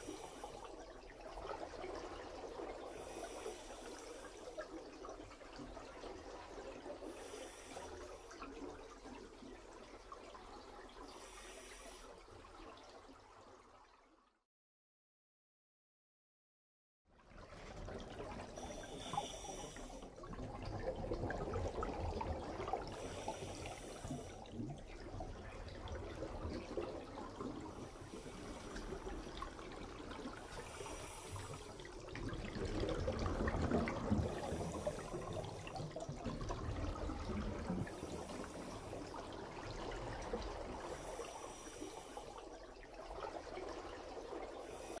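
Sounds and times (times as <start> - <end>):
underwater bubbling and gurgling: 0.0 - 13.6, 17.3 - 45.0.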